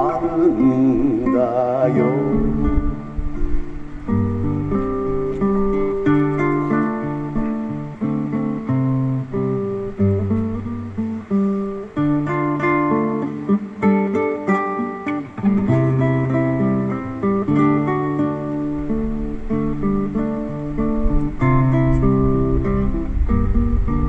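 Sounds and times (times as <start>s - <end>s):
plucked string instrument melody: 0.0s - 24.0s.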